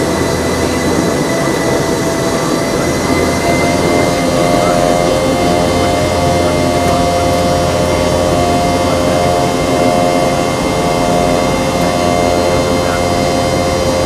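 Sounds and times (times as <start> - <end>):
aircraft cabin engine rush: 0.0 - 14.0
constant whining tones: 0.0 - 14.0.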